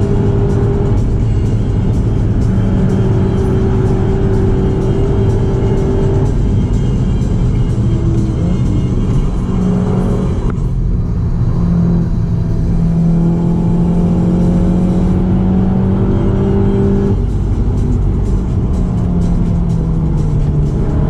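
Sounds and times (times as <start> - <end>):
car engine accelerating: 0.0 - 21.0
tyre and road noise: 0.0 - 21.0.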